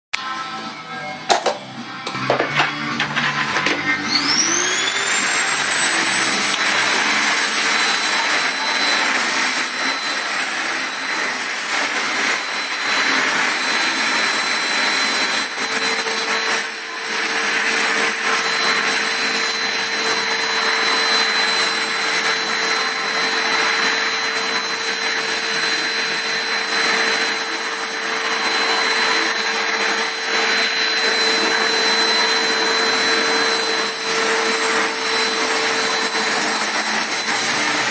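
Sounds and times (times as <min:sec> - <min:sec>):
vacuum cleaner motor whine: 0:00.2 - 0:37.9.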